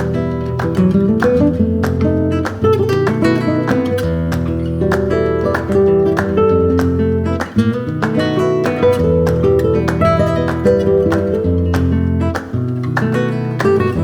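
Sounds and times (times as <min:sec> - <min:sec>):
flamenco-style acoustic guitar: 0:00.0 - 0:14.0.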